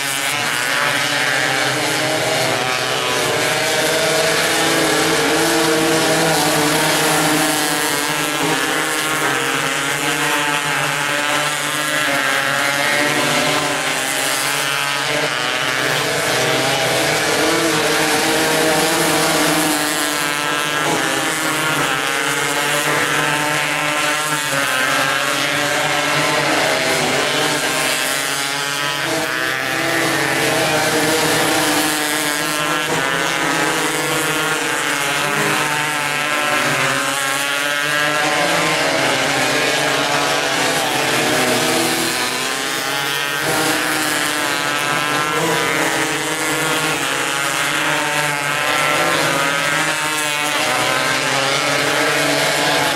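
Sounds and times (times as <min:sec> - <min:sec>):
high-pitched race car engines: 0:00.0 - 0:52.9.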